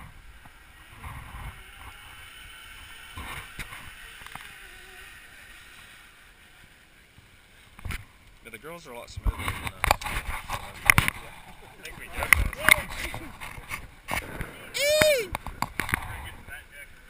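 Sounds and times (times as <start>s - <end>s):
zip line trolley whirring on cable: 0.0s - 8.0s, 10.1s - 16.0s.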